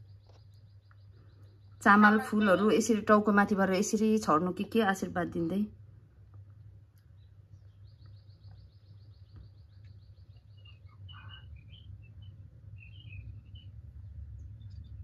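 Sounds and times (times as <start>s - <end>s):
low hum: 0.0s - 15.0s
small birds chirping: 0.0s - 15.0s.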